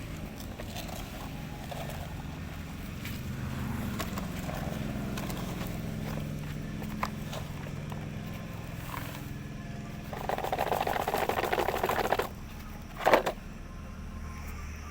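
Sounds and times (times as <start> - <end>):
fast mechanical rattle: 0.0 - 13.4
small motor humming: 0.0 - 14.9.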